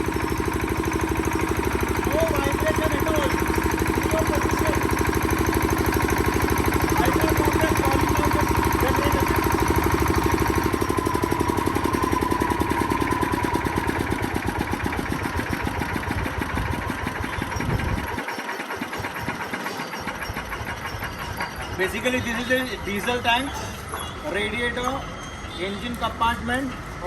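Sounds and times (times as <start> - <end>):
diesel generator running: 0.0 - 27.0.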